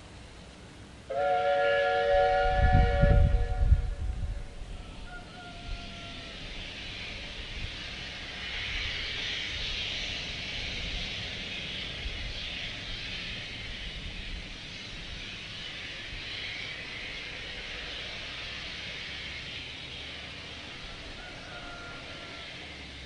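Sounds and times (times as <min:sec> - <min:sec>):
steam hissing: 0:00.0 - 0:23.0.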